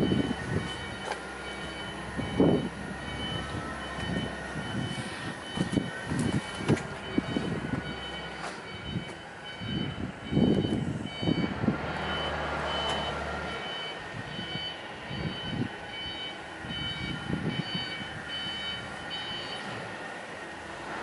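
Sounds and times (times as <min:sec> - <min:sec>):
electronic warning beeper: 0:00.0 - 0:19.7.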